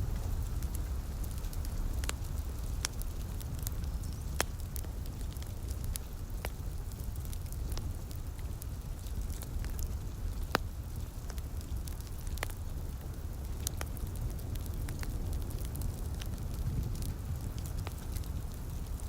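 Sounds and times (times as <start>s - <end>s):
fire popping: 0.0s - 19.0s
fire rumbling: 0.0s - 19.0s.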